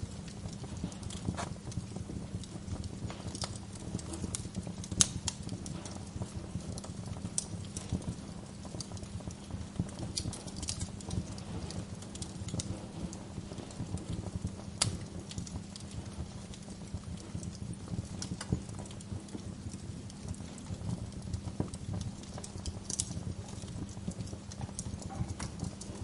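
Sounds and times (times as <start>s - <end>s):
low rumble of flames: 0.0s - 26.0s
wood fire crackling: 0.0s - 26.0s.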